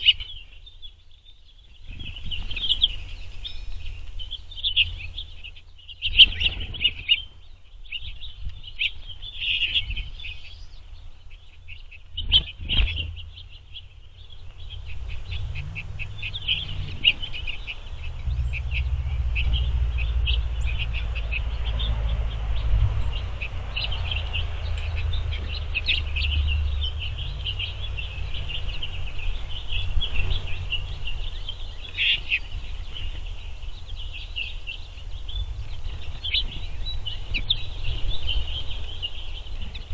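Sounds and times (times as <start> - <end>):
finches twittering and chirping: 0.0 - 39.9
low steady rumble: 0.0 - 39.9.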